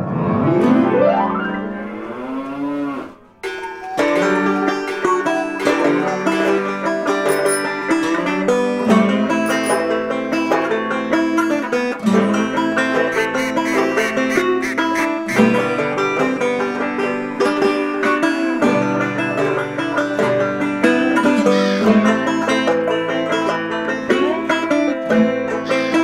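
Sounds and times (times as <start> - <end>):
plucked-string instrumental music: 0.0 - 26.0.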